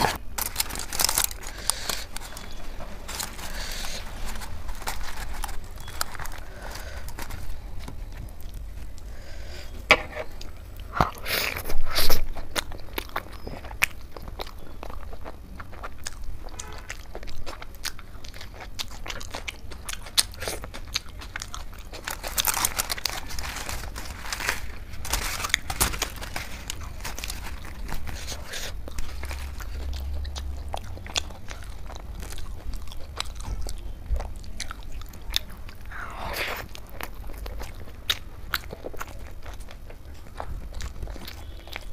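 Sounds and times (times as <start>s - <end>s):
close chewing and mouth clicks: 0.0s - 9.2s, 10.2s - 41.9s.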